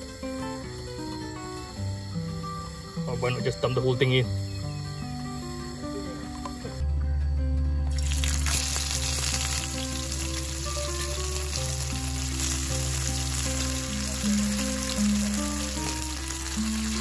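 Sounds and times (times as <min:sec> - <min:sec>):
fish sizzling in hot oil: 0:00.0 - 0:06.0, 0:07.9 - 0:17.0
background music with bass line: 0:00.0 - 0:17.0.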